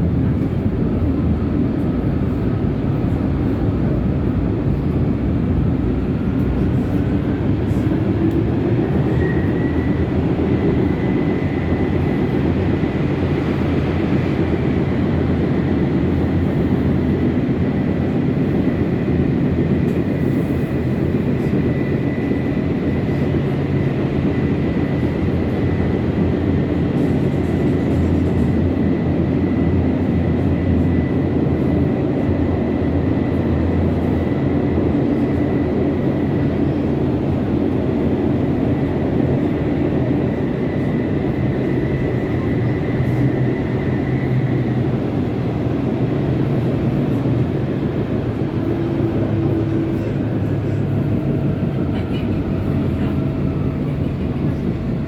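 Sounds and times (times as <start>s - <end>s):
tram rumbling on rails: 0.0s - 55.0s.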